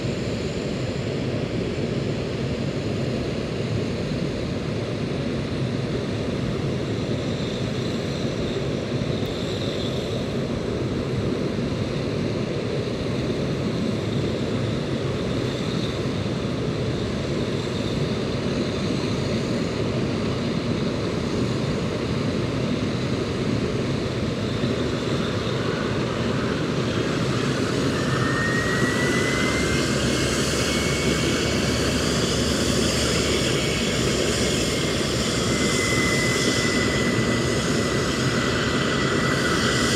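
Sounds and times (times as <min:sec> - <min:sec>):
high engine whine: 0:00.0 - 0:39.9
jet engine rumble: 0:00.0 - 0:39.9.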